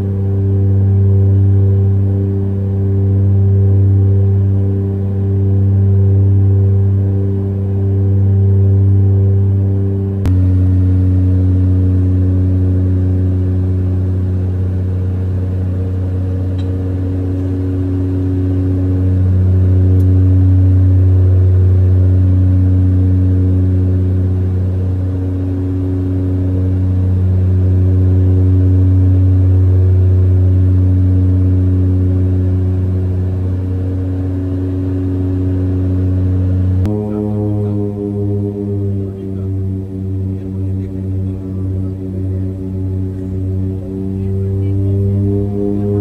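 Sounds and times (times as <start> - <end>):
jet engine drone in cabin: 0.0 - 46.0.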